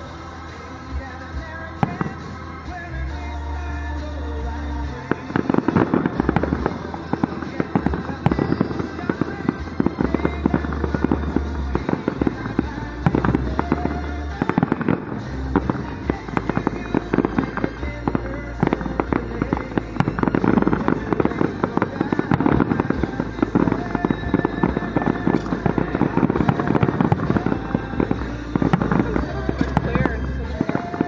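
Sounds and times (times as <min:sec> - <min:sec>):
fireworks bursting: 0:00.0 - 0:31.0
music from a radio: 0:00.0 - 0:31.0.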